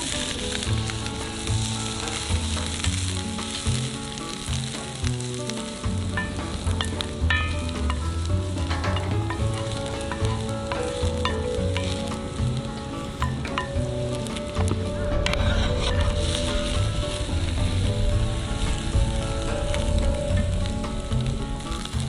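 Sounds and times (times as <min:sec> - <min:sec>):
utensil stirring in pan: 0:00.0 - 0:20.0
food sizzling in oil: 0:00.0 - 0:22.0.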